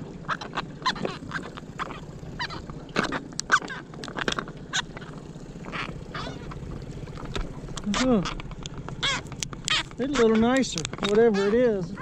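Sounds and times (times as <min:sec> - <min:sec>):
water slapping aluminum boat hull: 0:00.0 - 0:12.0.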